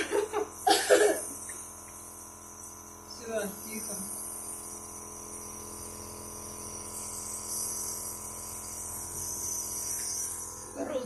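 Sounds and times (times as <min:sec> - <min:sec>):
nebulizer electric buzz: 0:00.0 - 0:11.0.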